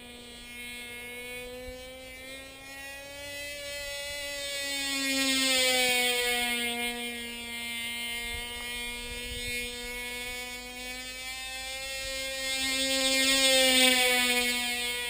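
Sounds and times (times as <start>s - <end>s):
model plane engine buzzing: 0.0s - 15.0s.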